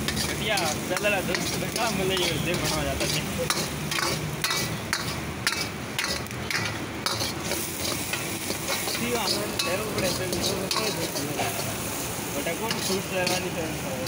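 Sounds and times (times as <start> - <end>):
ladle scraping and clanking on wok: 0.0 - 13.8
vegetables sizzling in a wok: 0.0 - 14.0.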